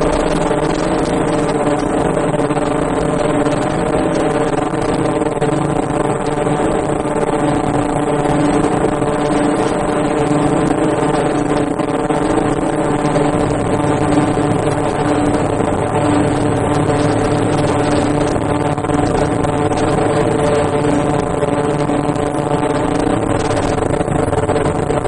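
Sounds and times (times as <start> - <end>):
machine humming with high whine: 0.0 - 25.0.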